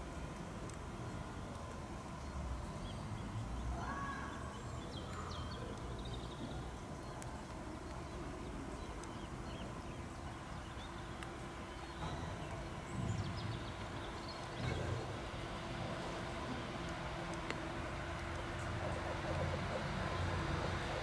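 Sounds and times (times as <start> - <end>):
distant train rumble: 0.0 - 21.0
birds chirping: 0.9 - 21.0.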